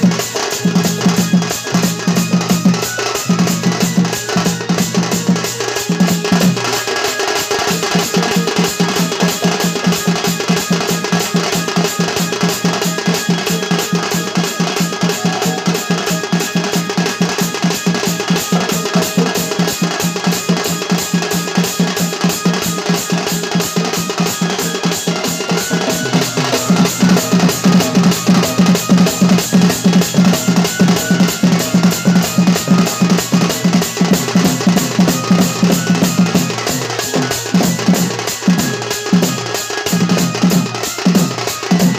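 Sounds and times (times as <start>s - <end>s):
drum-heavy folk music: 0.0s - 41.9s.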